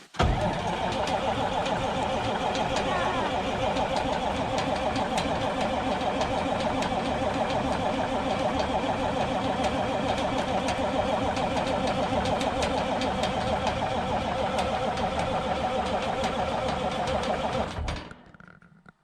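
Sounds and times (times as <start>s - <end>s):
diesel engine droning: 0.1s - 17.8s.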